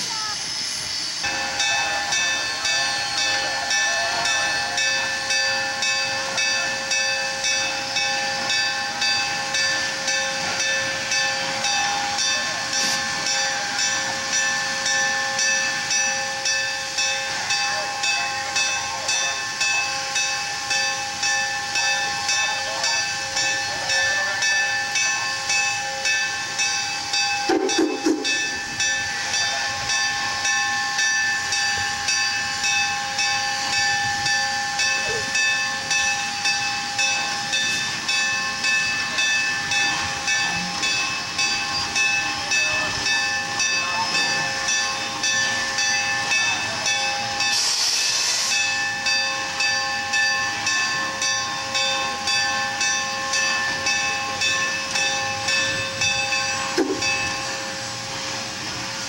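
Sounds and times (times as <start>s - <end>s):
steam locomotive hissing steam: 0.0s - 59.0s.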